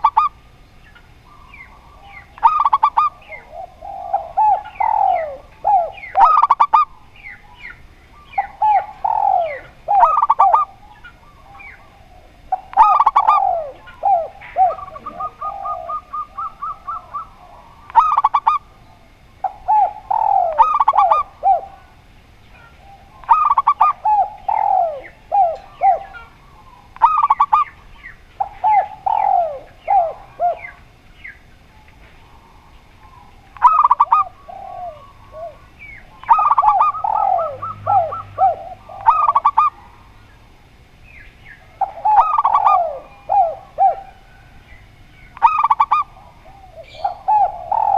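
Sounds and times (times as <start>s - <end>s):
doves cooing: 0.0s - 47.9s.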